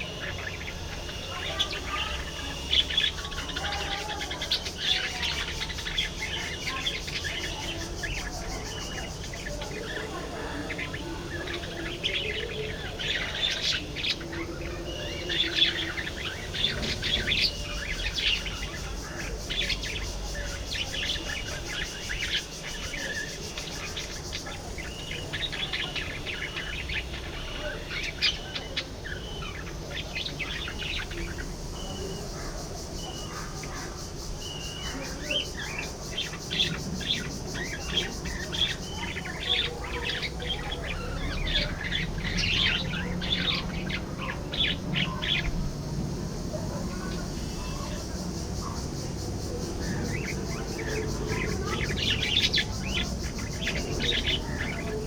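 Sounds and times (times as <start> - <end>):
budgerigars chirping: 0.0 - 45.7, 46.4 - 55.0.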